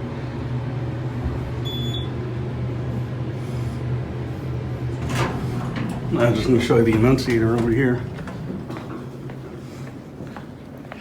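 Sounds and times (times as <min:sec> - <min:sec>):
elevator humming: 0:00.0 - 0:11.0.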